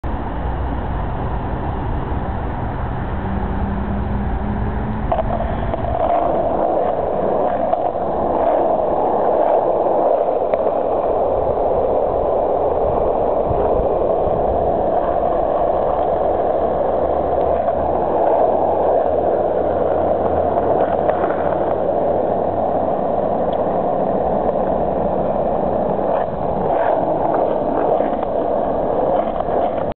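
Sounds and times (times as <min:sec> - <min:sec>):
skateboard wheels rolling on asphalt: 0:00.0 - 0:30.0.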